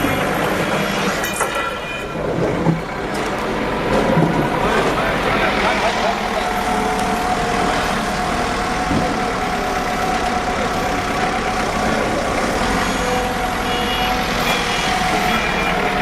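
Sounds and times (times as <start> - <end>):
engines and machinery running: 0.0 - 16.0.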